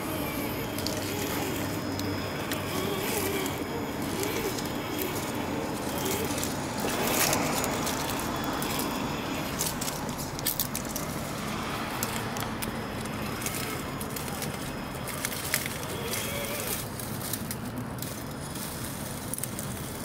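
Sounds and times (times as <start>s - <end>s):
electric motor whirring: 0.0s - 20.0s
tyres crunching on gravel: 0.0s - 20.0s
stones clicking: 0.1s - 18.4s.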